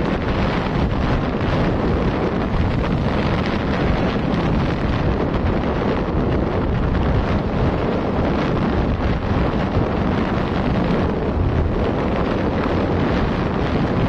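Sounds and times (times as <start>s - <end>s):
motorcycle ride rush: 0.0s - 14.0s
wind buffeting microphone: 0.0s - 14.0s.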